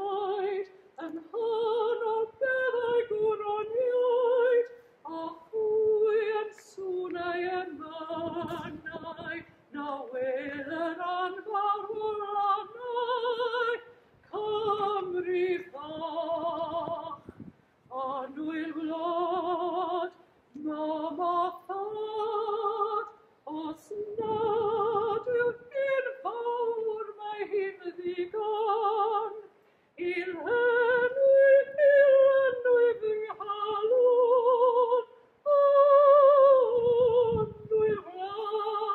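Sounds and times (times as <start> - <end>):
woman singing unaccompanied: 0.0 - 38.9.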